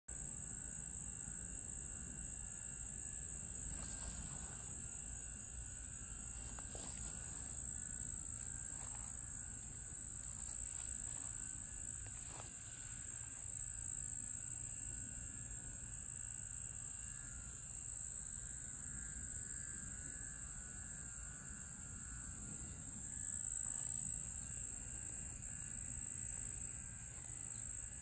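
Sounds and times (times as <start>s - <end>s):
insects chorus: 0.1s - 28.0s.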